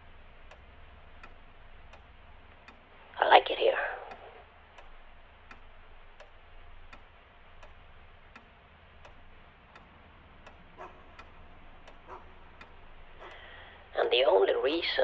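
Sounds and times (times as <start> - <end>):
faint even ticking: 0.0 - 15.0
low steady hum: 0.0 - 15.0.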